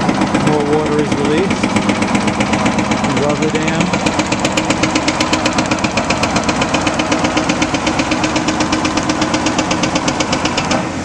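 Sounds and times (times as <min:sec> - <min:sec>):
excavator diesel engine clattering: 0:00.0 - 0:11.0
river water rushing: 0:01.5 - 0:11.0.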